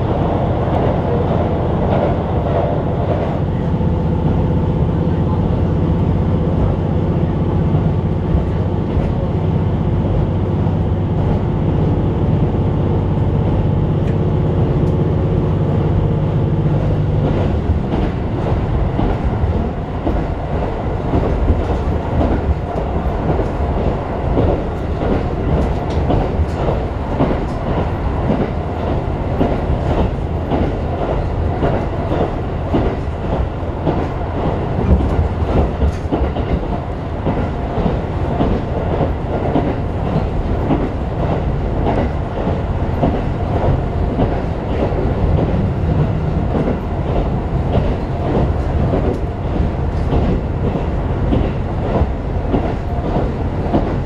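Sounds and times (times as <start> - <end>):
rail clacks: 0.0 - 54.0
train wheels rumbling on rails: 0.0 - 54.0.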